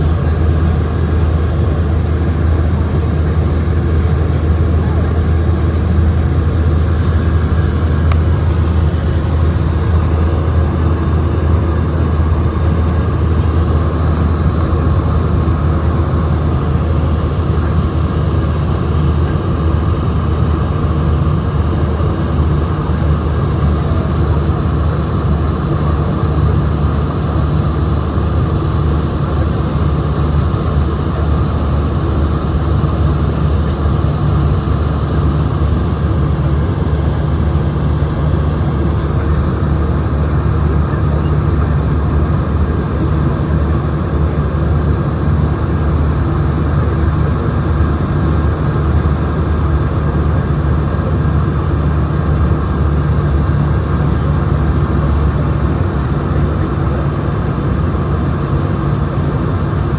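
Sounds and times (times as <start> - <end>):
jet engine hum: 0.0 - 59.9.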